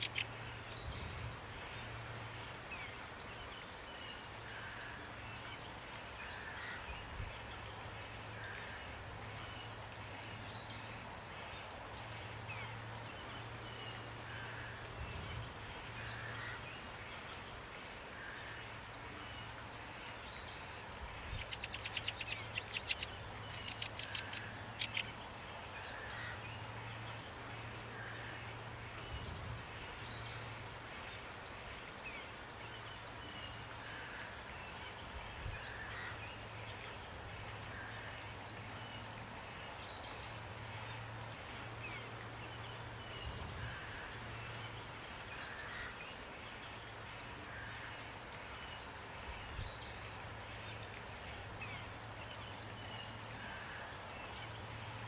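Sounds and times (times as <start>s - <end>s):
rain hiss: 0.0s - 55.0s
songbirds chirping: 0.0s - 55.0s.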